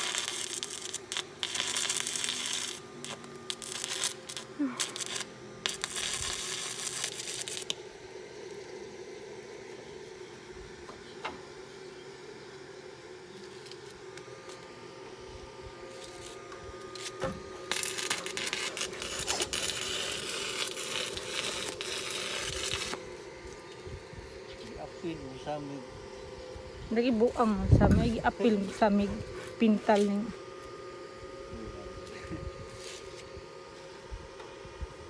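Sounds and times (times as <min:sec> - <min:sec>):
crackling sizzling hiss: 0:00.0 - 0:35.0
steady hum: 0:00.0 - 0:35.0.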